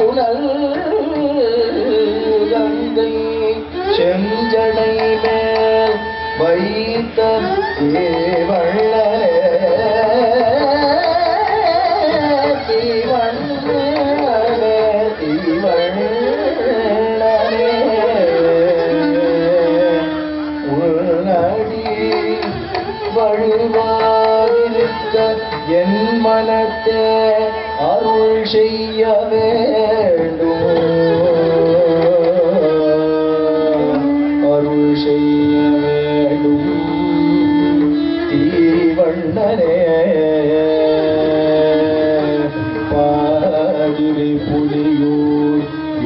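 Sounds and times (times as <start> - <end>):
accompanying instruments: 0.0 - 46.0
hand drum: 0.0 - 46.0
person singing ornamented melody: 0.0 - 46.0.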